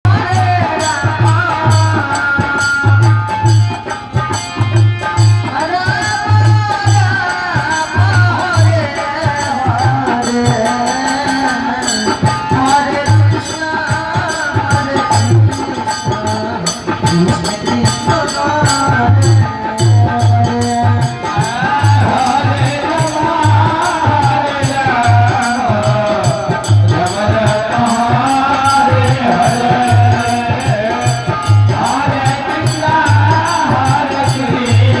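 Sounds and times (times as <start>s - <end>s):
steady drum beat: 0.0s - 35.0s
devotional melody: 0.1s - 35.0s
jingling hand percussion: 0.1s - 35.0s.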